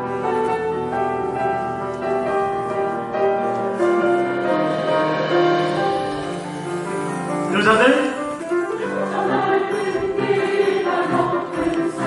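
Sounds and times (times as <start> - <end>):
piano playing held notes: 0.0 - 12.0.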